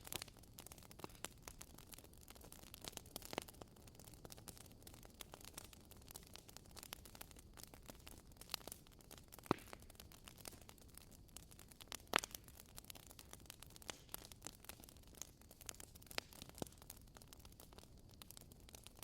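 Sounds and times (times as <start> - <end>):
loud pops from fire: 0.0 - 19.0
wood fire crackling: 0.0 - 19.0.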